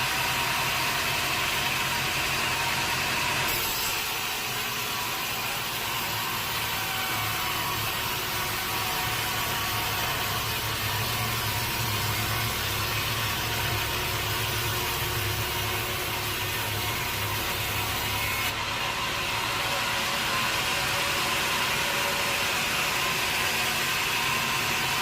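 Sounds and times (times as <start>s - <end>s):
sawmill machinery hum: 0.0s - 25.0s.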